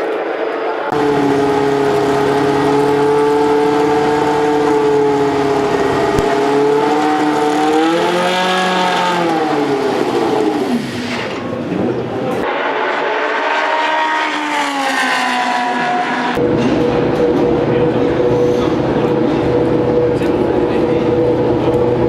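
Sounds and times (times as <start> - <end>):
racing car engine at high revs: 0.5 - 22.0.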